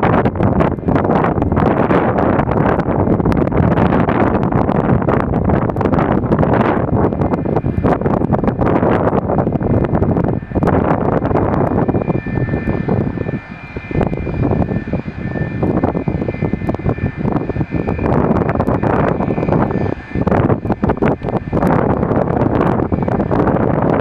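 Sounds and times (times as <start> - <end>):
airliner engines running: 0.0 - 24.0
high engine whine: 0.0 - 24.0
wind buffeting microphone: 0.0 - 24.0.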